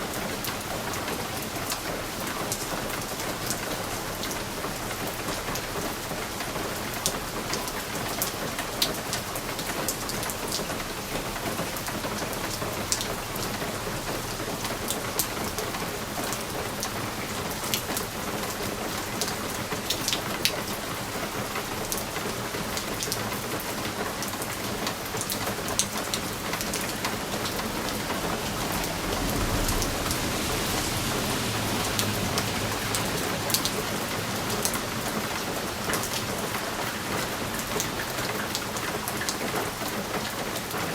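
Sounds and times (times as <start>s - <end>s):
rain hissing against window: 0.0s - 40.9s.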